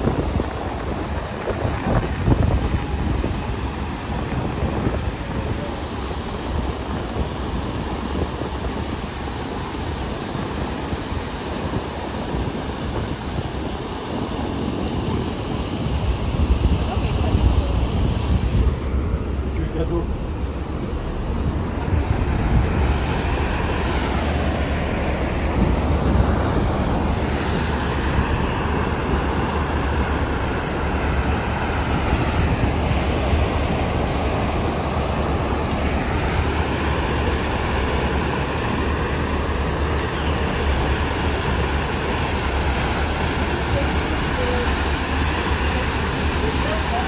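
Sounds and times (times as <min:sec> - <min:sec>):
boat engine drone: 0:00.0 - 0:47.0
rushing wake water: 0:00.0 - 0:47.0
wind on microphone: 0:00.0 - 0:47.0.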